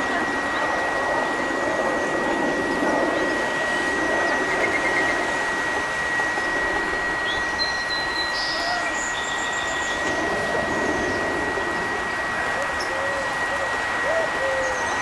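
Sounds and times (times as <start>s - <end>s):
thin high whine: 0.0s - 15.0s
machine rushing noise: 0.9s - 14.1s.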